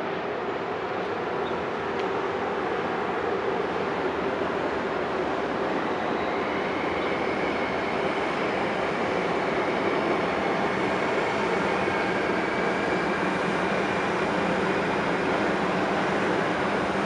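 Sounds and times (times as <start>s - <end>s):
train rolling rumble: 0.0s - 17.0s.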